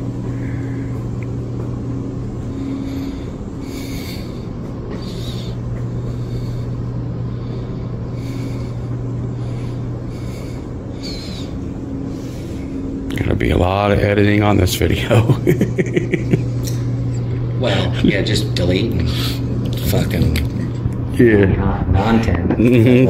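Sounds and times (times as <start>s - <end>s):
ventilation system hum: 0.0s - 23.0s.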